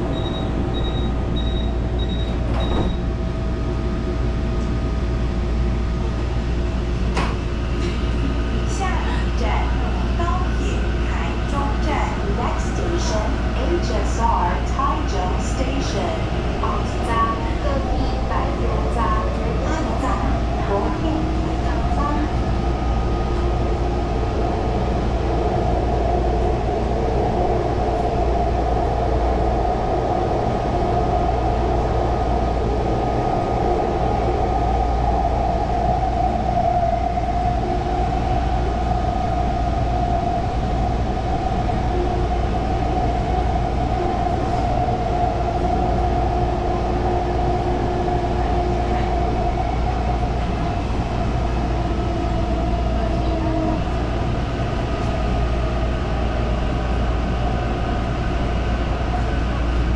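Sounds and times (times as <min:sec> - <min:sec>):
train low rumble: 0:00.0 - 0:59.9.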